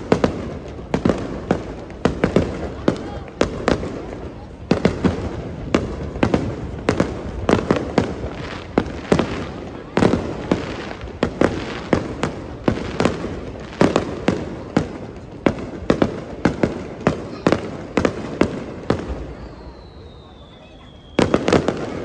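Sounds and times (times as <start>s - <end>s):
fireworks bangs with rumbling tails: 0.0s - 22.0s.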